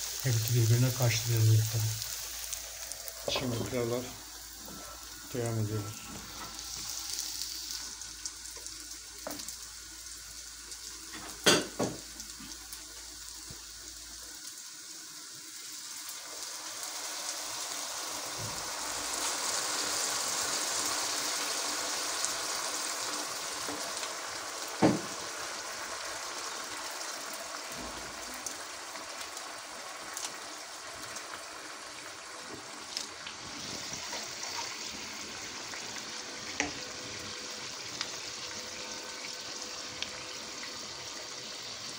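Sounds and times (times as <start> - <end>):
water bubbling boil: 0.0 - 14.4, 15.8 - 41.9
grains sizzling in oil: 0.0 - 41.9
water poured into hot pan: 0.0 - 41.9.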